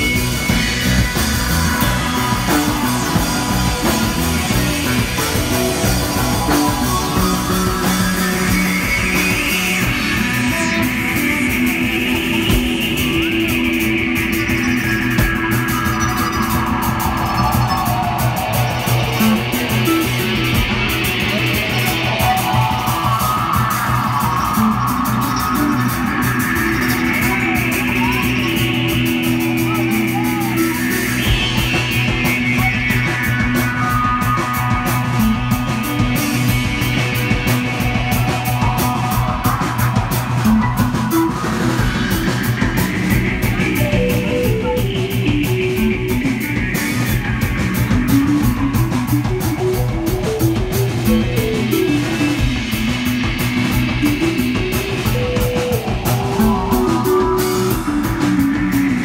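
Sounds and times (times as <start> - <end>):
live psychedelic rock band: 0.0 - 59.0.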